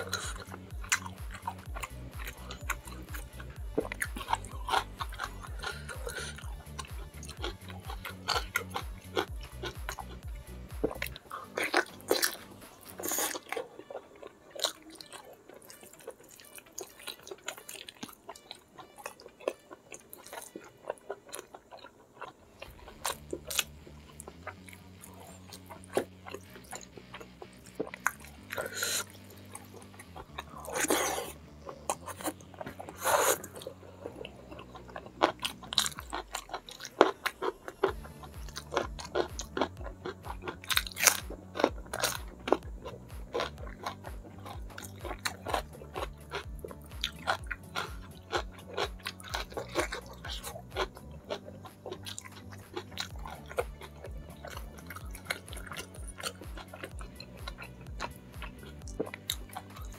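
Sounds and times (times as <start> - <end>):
crunchy bites: 0.0 - 59.9
quiet background music: 0.0 - 59.9
wet chewing and lip smacking: 0.0 - 59.9.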